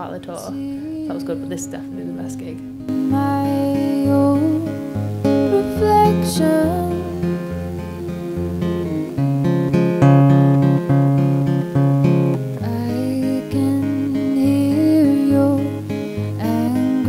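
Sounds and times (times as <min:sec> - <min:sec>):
woman singing: 0:00.0 - 0:09.6, 0:12.6 - 0:17.0
acoustic guitar picking: 0:00.0 - 0:17.0.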